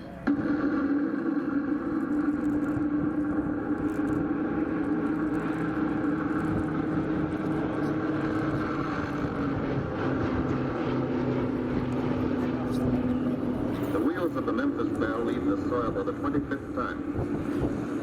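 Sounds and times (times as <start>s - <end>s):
propeller aircraft engines droning: 0.0s - 18.0s.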